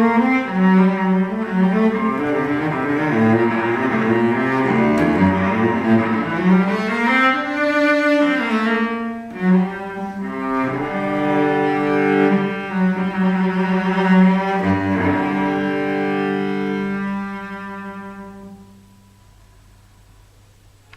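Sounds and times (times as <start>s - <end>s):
bowed cello notes: 0.0s - 19.2s.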